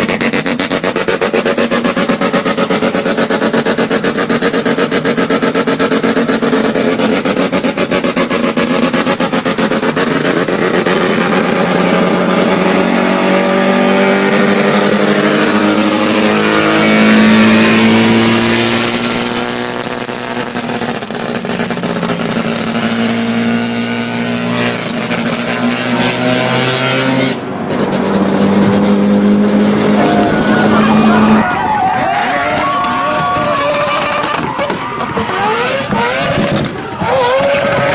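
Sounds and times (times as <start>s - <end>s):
rotary engine revving high: 0.0s - 37.9s.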